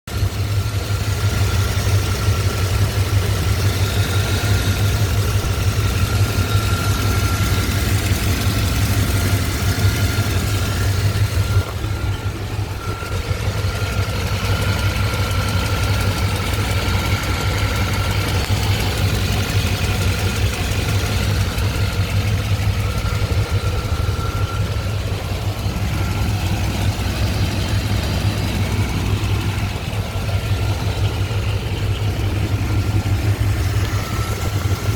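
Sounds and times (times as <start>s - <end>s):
car engine idling: 0.0s - 34.9s
fast even ticking: 1.1s - 34.9s.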